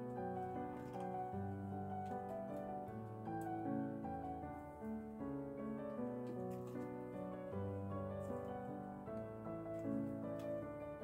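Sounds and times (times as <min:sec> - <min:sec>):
soft slow piano: 0:00.0 - 0:11.0.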